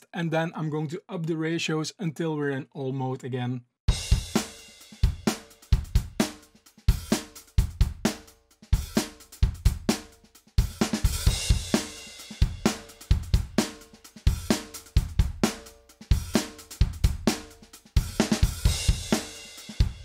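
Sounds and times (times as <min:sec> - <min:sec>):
snare drum: 0:03.9 - 0:20.0.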